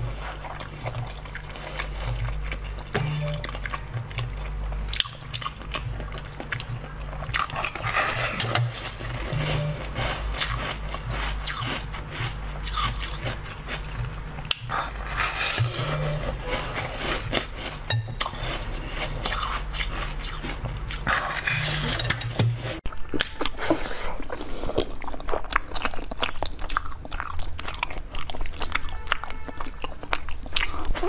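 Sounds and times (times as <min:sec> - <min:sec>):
chewing crisp food: 0:00.0 - 0:31.0.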